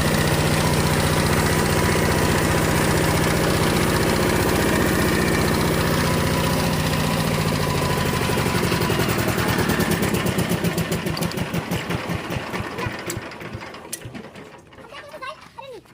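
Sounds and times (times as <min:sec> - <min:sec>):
diesel tiller engine running: 0:00.0 - 0:15.5.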